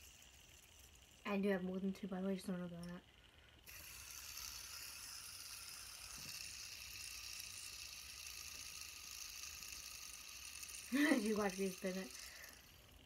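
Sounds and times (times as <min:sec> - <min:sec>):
fidget spinner whirring: 0:00.0 - 0:13.0.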